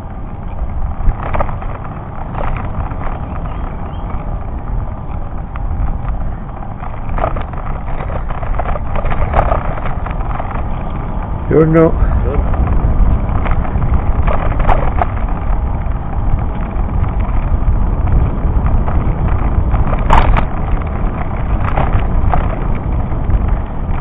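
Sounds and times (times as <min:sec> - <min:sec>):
bike knocks and rattles: 0:00.0 - 0:24.0
tyre rumble on asphalt: 0:00.0 - 0:24.0
wind buffeting microphone: 0:00.0 - 0:24.0.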